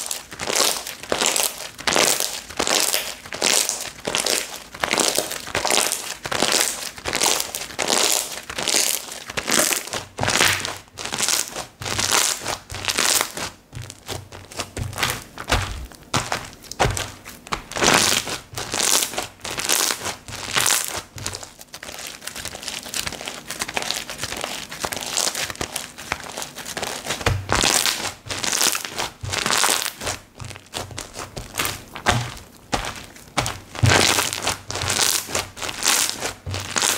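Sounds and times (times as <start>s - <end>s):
slime squelching: 0.0s - 36.9s.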